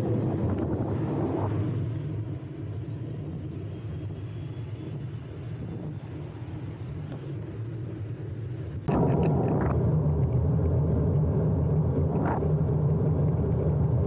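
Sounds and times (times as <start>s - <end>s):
road noise: 0.0s - 14.0s
wind on microphone: 0.0s - 14.0s.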